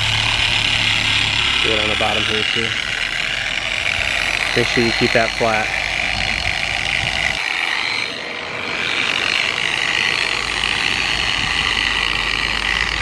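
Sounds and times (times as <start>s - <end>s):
polisher humming: 0.0s - 13.0s.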